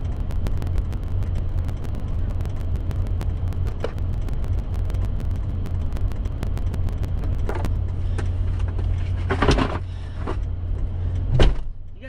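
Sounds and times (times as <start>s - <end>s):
engine running low rumble: 0.0s - 12.0s
small irregular clicks: 0.0s - 12.0s.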